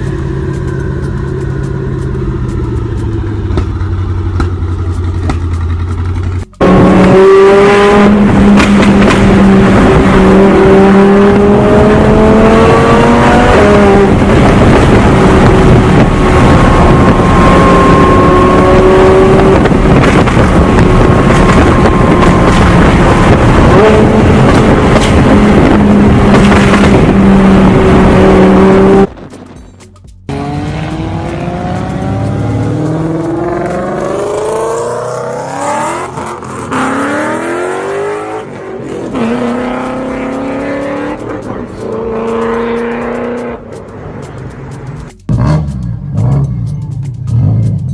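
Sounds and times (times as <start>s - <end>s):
car engine at high revs: 0.0s - 29.3s, 30.3s - 46.6s
car engine revving: 0.0s - 29.5s, 30.2s - 47.9s.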